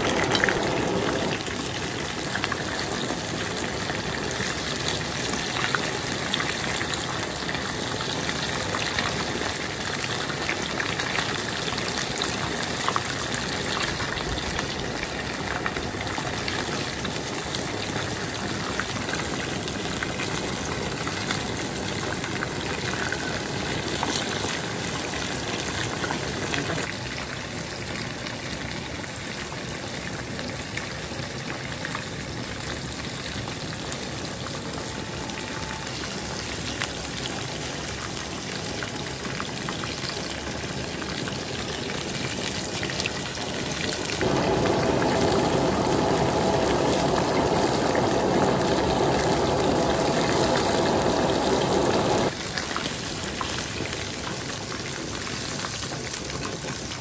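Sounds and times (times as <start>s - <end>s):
oil sizzling in a wok: 0.0s - 57.0s.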